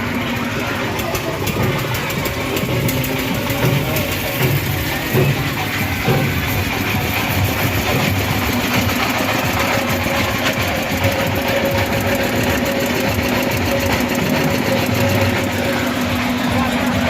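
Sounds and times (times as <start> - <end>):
motor low rumble: 0.0 - 17.0.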